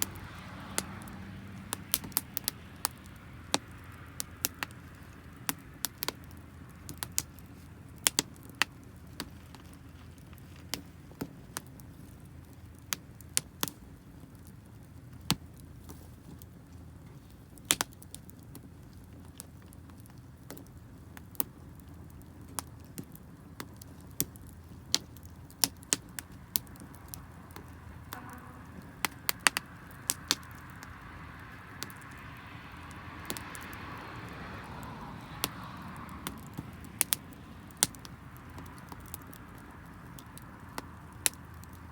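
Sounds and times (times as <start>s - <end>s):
wood campfire crackling: 0.0s - 41.9s.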